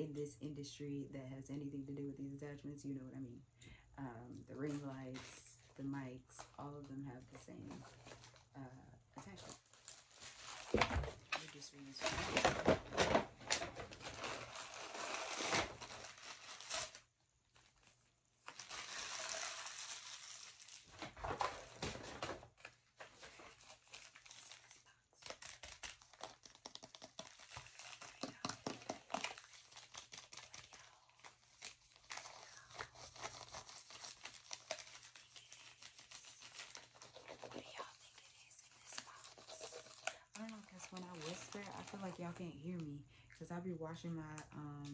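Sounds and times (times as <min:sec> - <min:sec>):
paper packaging rustling and tearing: 0:04.5 - 0:08.6, 0:09.2 - 0:42.8
plastic mailer bag crinkling: 0:04.6 - 0:42.9.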